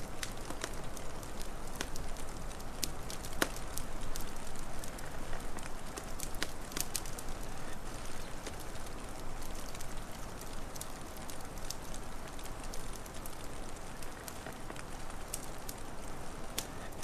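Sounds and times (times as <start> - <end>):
fire pops and snaps: 0.0 - 17.0
wood fire crackling: 0.0 - 17.0.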